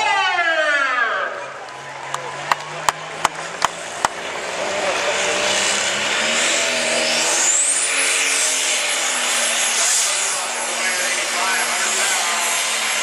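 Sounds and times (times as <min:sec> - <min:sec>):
tractor diesel engine revving: 0:01.3 - 0:13.0.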